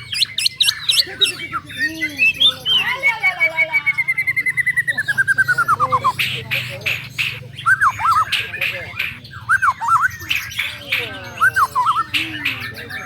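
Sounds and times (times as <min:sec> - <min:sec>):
bird singing rapid trill: 0:00.0 - 0:13.0
harsh rasping bird notes: 0:00.0 - 0:13.0.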